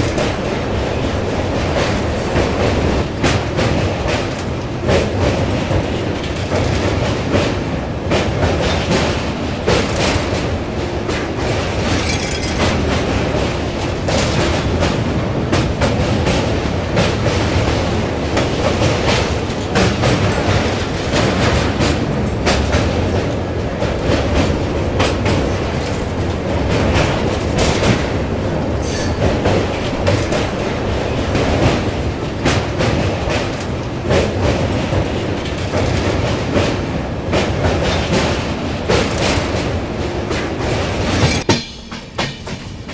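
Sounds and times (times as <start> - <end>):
train rumbling on bridge: 0.0 - 42.9
wheels clattering over rail joints: 0.0 - 42.9.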